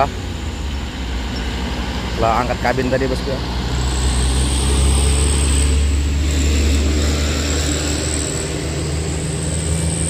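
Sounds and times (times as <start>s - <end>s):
diesel truck engine droning: 0.0s - 10.0s
thin high whine: 0.0s - 10.0s.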